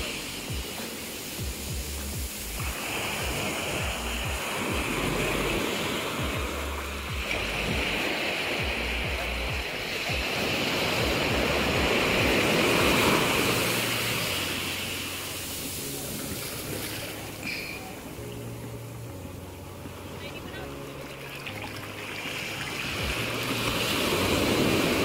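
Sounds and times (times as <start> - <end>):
waves washing up a beach: 0.0 - 25.0.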